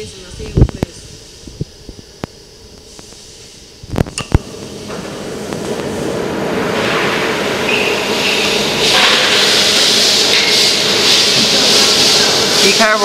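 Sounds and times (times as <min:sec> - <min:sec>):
cnc router running with rushing hiss: 0:00.0 - 0:13.0.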